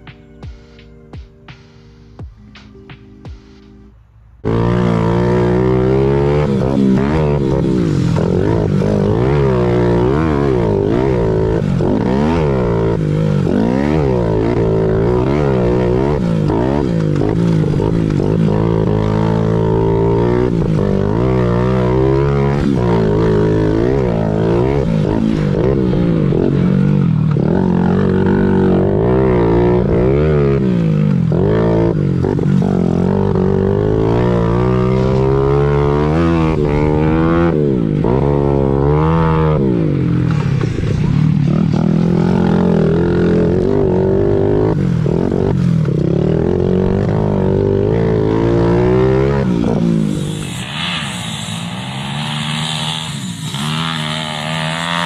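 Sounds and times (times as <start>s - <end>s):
pit bike engine revving: 4.4s - 55.0s.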